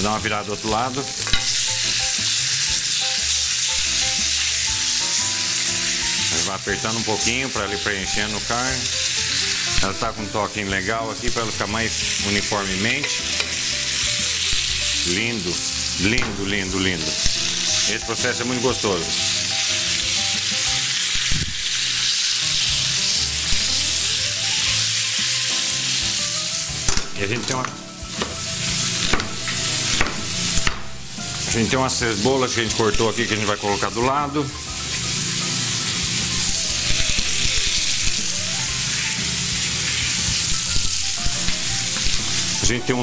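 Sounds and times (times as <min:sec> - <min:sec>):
steak sizzling in a pan: 0:00.0 - 0:43.0.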